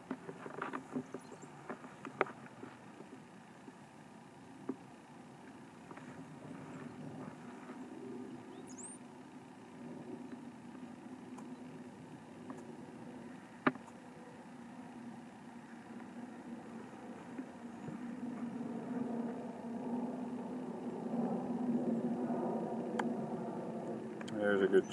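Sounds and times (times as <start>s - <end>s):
low outdoor rumble: 0.0s - 24.9s.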